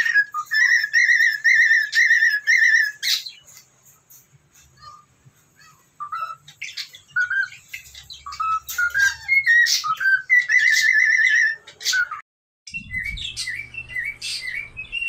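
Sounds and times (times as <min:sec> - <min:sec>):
cockatiel whistling and chirping: 0:00.0 - 0:03.6, 0:04.8 - 0:15.0.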